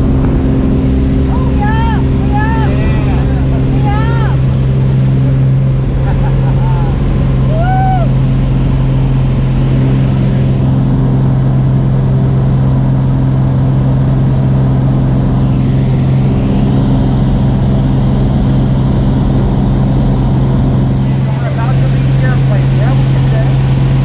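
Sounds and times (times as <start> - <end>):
plane engine and propeller drone: 0.0 - 24.0.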